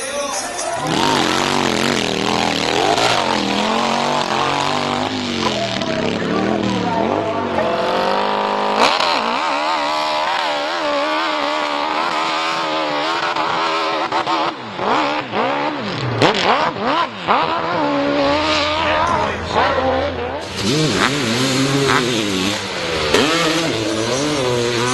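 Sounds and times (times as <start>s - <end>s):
motorcycle engine revving: 0.6s - 24.9s.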